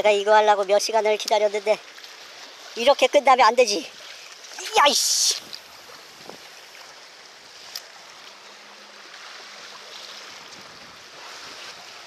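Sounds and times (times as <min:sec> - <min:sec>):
water lapping against concrete: 0:00.0 - 0:12.0.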